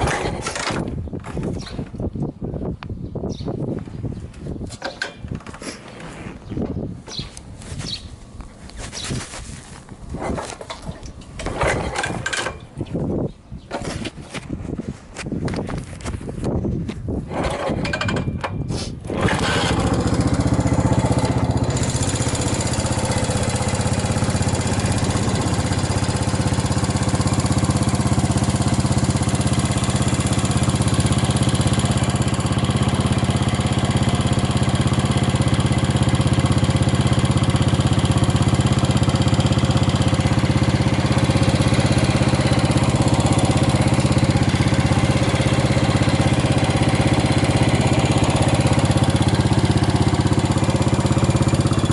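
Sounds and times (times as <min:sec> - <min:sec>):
motorcycle engine starting and idling: 0:00.0 - 0:02.0, 0:04.6 - 0:06.3, 0:09.7 - 0:13.0, 0:17.2 - 0:51.9.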